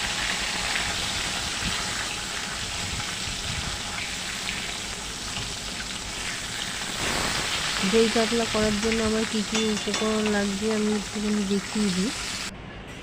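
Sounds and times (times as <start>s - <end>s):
fish frying sizzle: 0.0s - 12.5s.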